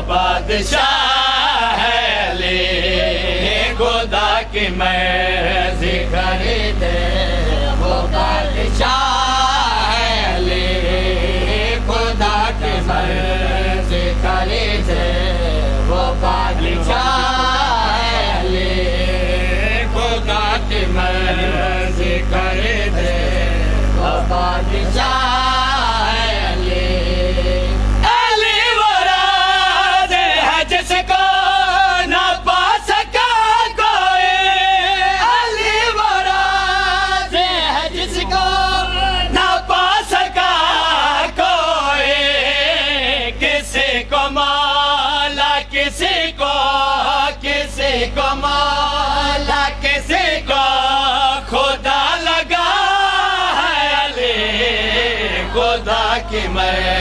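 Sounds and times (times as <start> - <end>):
low steady hum: 0.0 - 57.0
men chanting a lament: 0.0 - 57.0.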